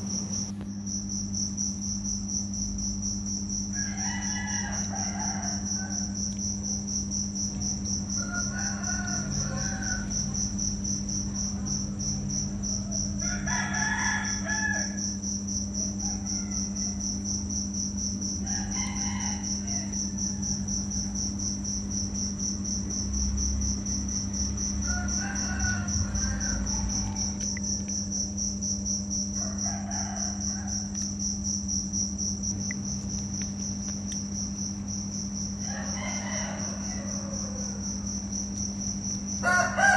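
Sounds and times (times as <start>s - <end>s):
low steady hum: 0.0s - 39.8s
insect trilling: 0.0s - 39.9s.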